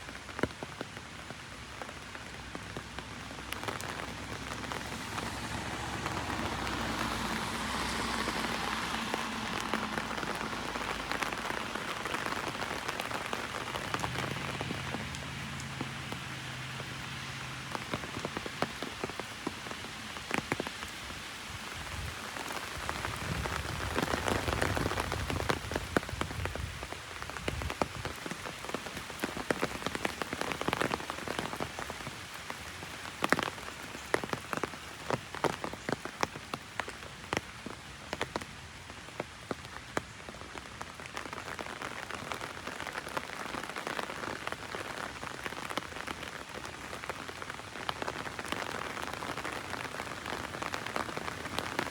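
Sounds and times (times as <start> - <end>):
heavy rain on an umbrella: 0.0 - 51.9.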